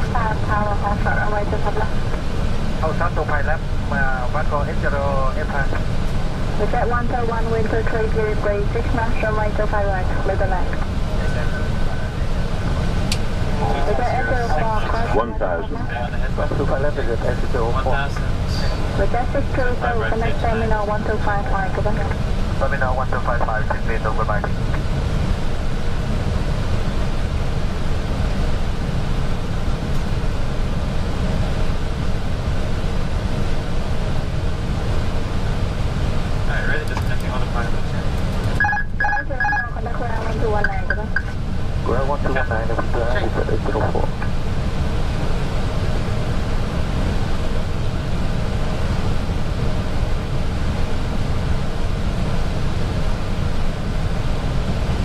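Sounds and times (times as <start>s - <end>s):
low aircraft rumble: 0.0s - 55.0s.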